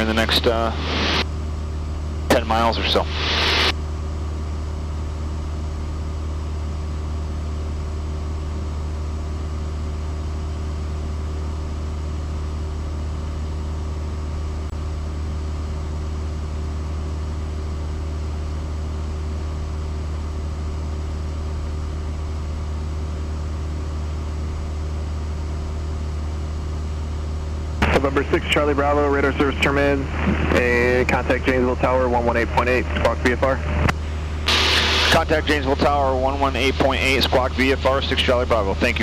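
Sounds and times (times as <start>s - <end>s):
airplane engine and propeller droning: 0.0s - 39.0s.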